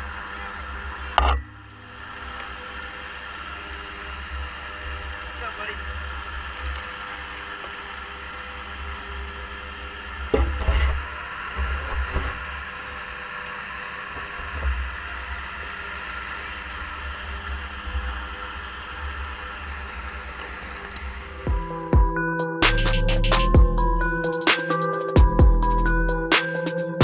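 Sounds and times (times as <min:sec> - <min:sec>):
low motor rumble: 0:00.0 - 0:24.4.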